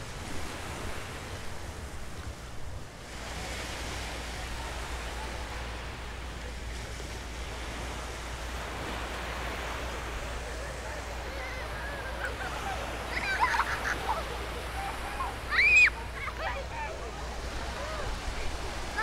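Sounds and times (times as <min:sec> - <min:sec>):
surf washing onto sandy beach: 0:00.0 - 0:19.0.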